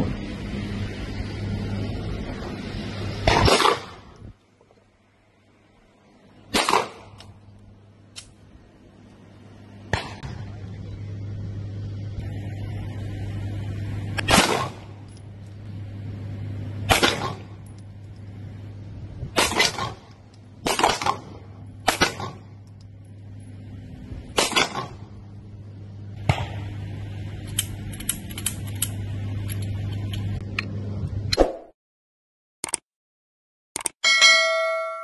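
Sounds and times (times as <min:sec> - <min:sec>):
steady low hum: 0:00.0 - 0:31.4.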